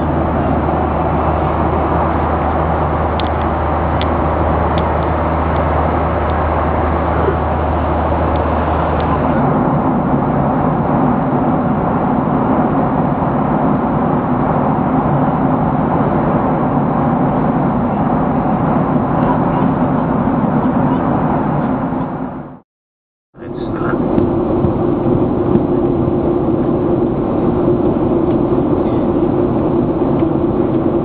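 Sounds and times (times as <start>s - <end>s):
airflow rush: 0.0s - 22.6s, 23.4s - 31.0s
jet engine drone: 0.0s - 22.6s, 23.4s - 31.0s.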